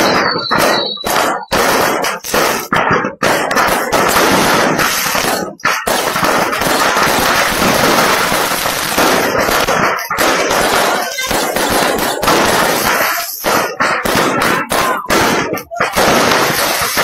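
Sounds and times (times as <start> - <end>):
firecracker bangs and crackling: 0.0 - 17.0.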